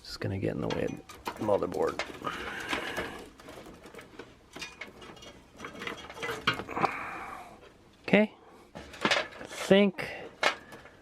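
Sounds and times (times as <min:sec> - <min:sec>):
cables rustling: 0:00.4 - 0:11.0.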